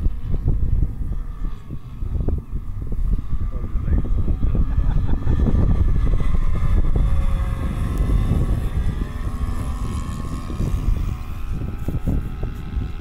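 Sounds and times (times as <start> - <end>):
model airplane engines buzzing: 0.0 - 13.0
wind rumble on microphone: 0.0 - 13.0.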